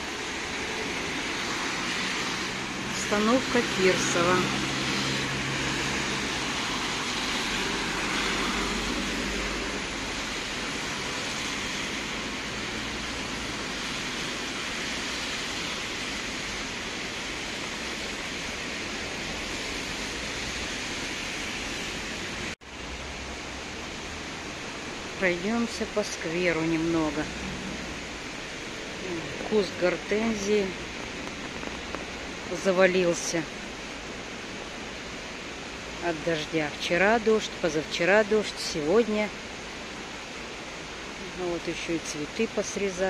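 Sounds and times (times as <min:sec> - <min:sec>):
car tyres swishing on wet road: 0:00.0 - 0:43.0
low traffic rumble: 0:00.0 - 0:43.0
rain falling on wet street: 0:00.0 - 0:43.0.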